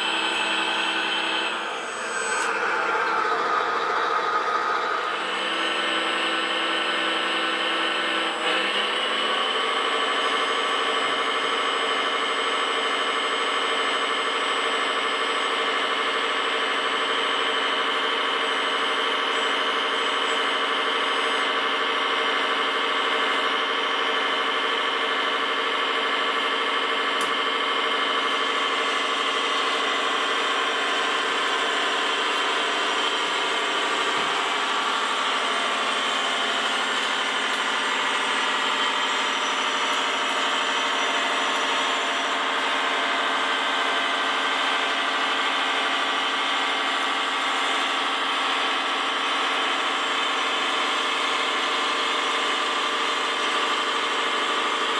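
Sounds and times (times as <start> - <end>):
engine-like drone: 0.0 - 54.9.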